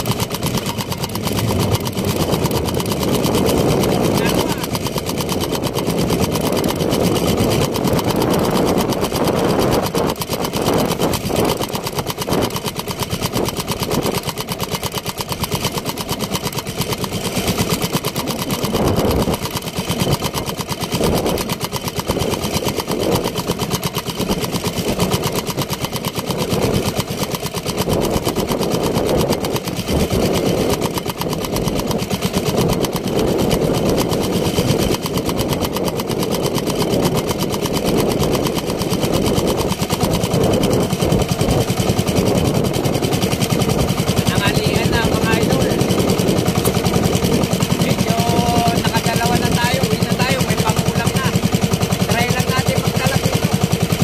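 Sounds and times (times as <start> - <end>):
boat engine running: 0.0 - 54.0
water splashing along hull: 0.0 - 54.0.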